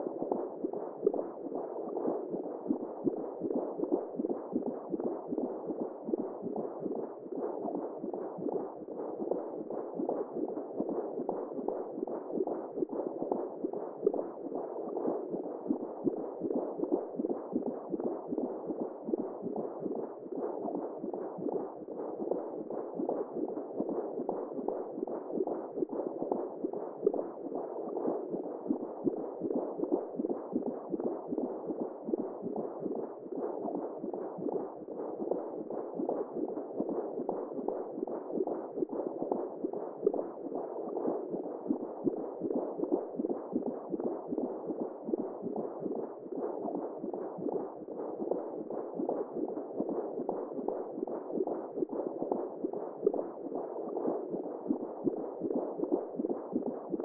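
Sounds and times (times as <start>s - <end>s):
muffled whooshing womb sound: 0.0s - 57.0s.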